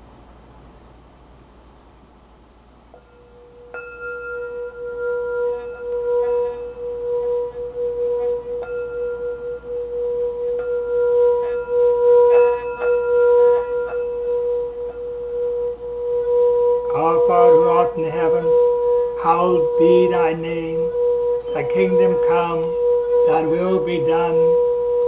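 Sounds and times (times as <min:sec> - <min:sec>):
singing bowl strikes: 0:02.9 - 0:25.0
singing bowl tone: 0:02.9 - 0:25.0.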